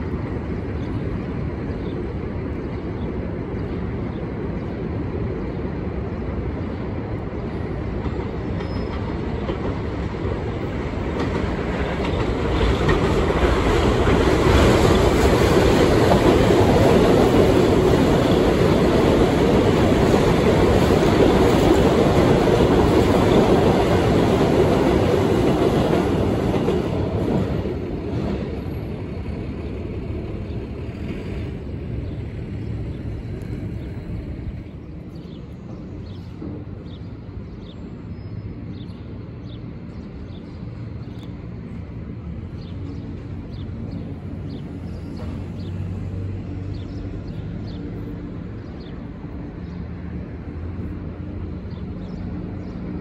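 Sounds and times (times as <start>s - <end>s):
distant trains and traffic rumble: 0.0s - 53.0s
subway train on tracks: 0.0s - 53.0s.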